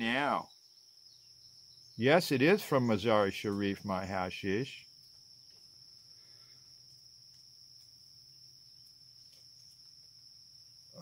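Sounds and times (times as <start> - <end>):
high-pitched insect chirring: 0.0 - 11.0.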